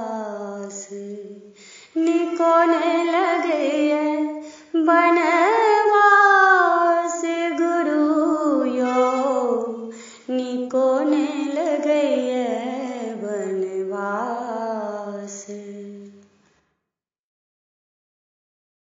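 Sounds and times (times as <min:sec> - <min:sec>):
woman singing unaccompanied: 0:00.0 - 0:16.2.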